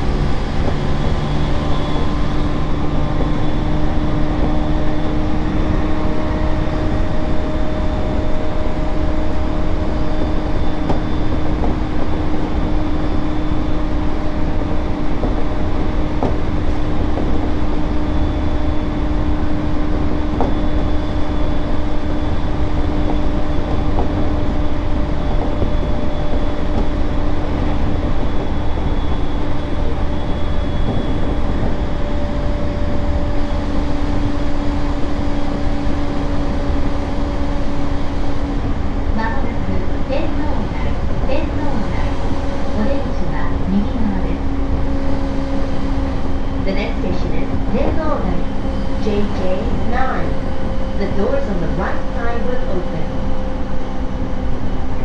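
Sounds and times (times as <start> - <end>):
faint high whine: 0.0 - 55.0
low hum: 0.0 - 55.0
train wheels rumbling on rail: 0.0 - 55.0.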